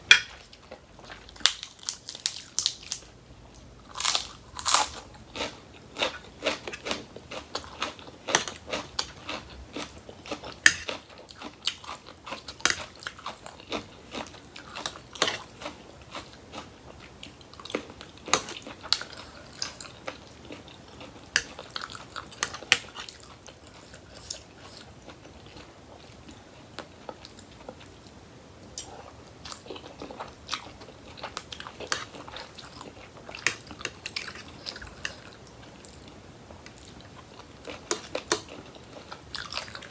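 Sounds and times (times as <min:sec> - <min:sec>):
chewing crunchy vegetables: 0:03.8 - 0:28.1, 0:28.8 - 0:39.9.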